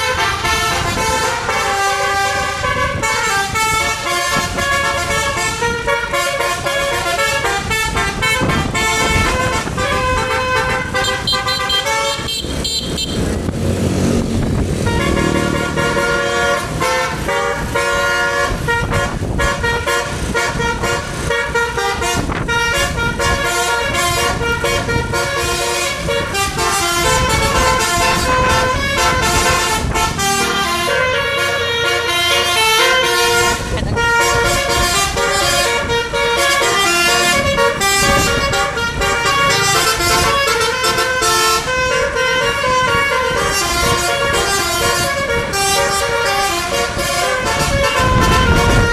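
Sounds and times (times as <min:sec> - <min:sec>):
multi-tone air horn tune: 0:00.0 - 0:13.3, 0:14.8 - 0:48.9
engine and road noise: 0:00.0 - 0:48.9.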